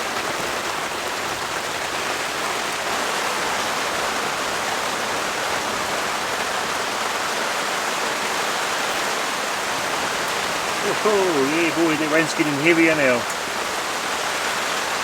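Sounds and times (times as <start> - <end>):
heavy rain on a tarp: 0.0 - 15.0.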